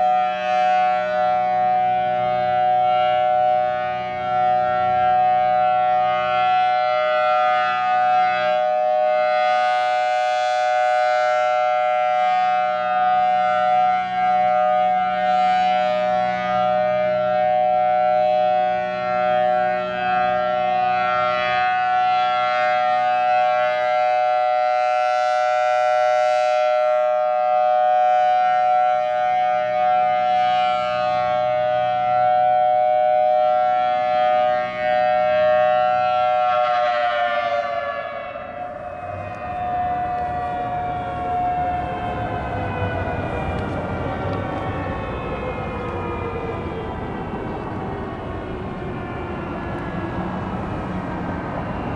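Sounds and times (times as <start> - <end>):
warning siren steady tone: 0.0 - 51.9.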